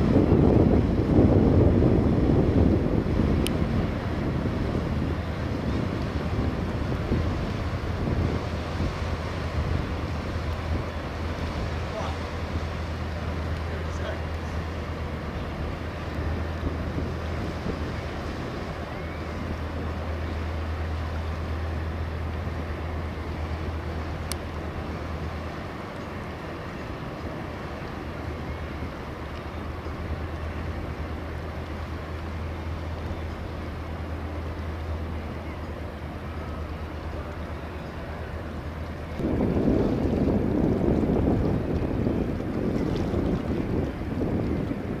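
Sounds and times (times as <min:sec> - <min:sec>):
boat diesel engine drone: 0:00.0 - 0:45.0
water wash: 0:00.0 - 0:45.0
wind: 0:00.0 - 0:45.0.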